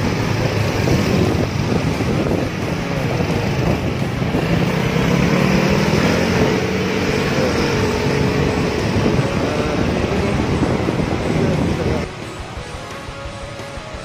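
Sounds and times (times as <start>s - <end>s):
small motorcycle engine running: 0.0s - 14.0s
wind rumble on microphone: 0.0s - 14.0s.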